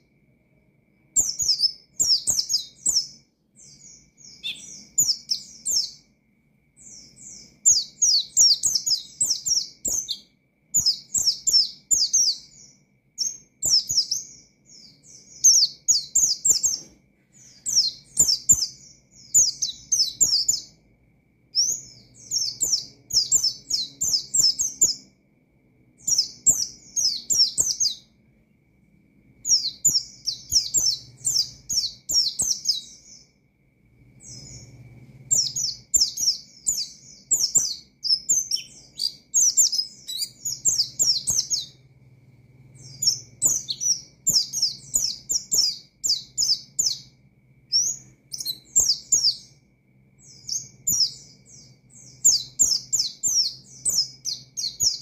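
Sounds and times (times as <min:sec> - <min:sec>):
bird singing high chirps: 0:01.0 - 0:25.3, 0:25.9 - 0:28.3, 0:29.3 - 0:55.0.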